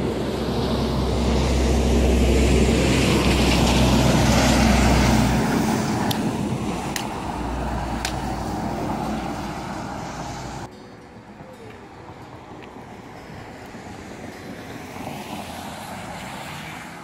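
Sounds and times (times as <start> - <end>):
large truck passing: 0.0 - 17.0.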